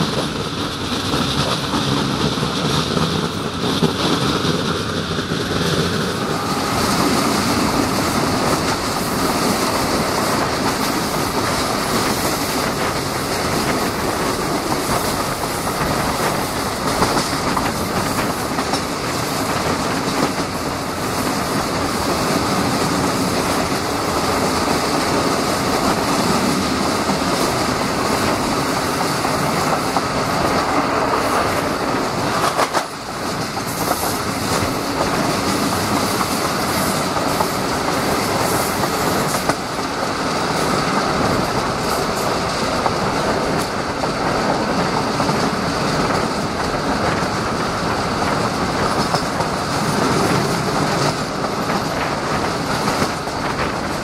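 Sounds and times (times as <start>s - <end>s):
train rushing on rails: 0.0s - 54.0s
wheels clickety-clack over rail joints: 0.0s - 54.0s.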